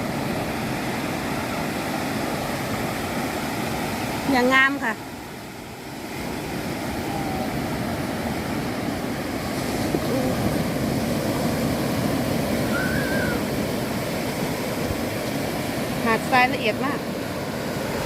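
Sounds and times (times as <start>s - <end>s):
surf waves washing onto beach: 0.0s - 18.0s.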